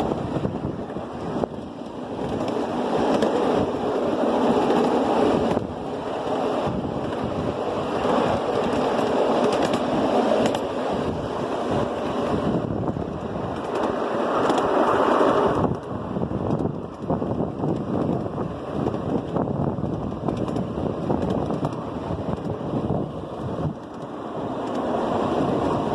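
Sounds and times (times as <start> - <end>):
wheels rumbling on rail: 0.0 - 25.9
wind on microphone: 0.0 - 25.9.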